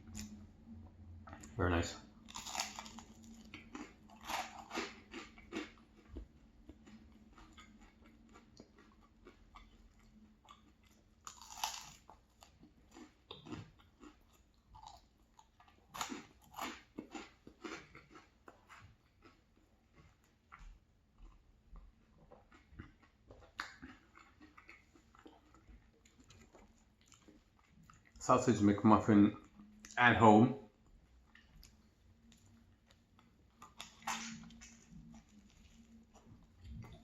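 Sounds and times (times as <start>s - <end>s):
chewing and crunching food: 0.0s - 0.5s, 1.2s - 28.3s, 30.7s - 37.0s.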